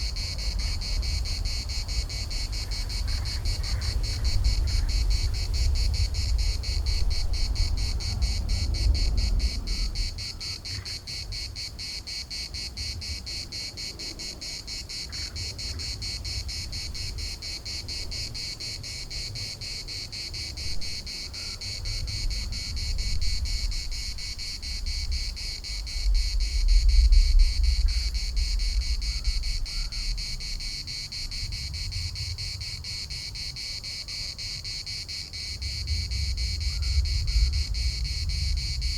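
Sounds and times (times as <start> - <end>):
cicadas buzzing: 0.0 - 38.9
wind rumble on microphone: 0.0 - 38.9.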